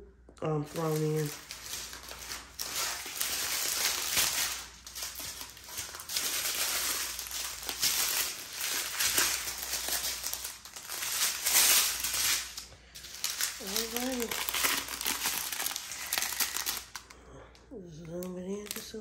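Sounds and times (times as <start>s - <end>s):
plastic bags crinkling: 0.4s - 19.0s.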